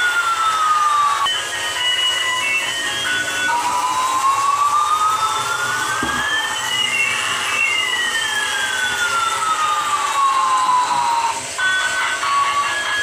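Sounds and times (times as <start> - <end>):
toy jet engine sound effect: 0.0 - 13.0.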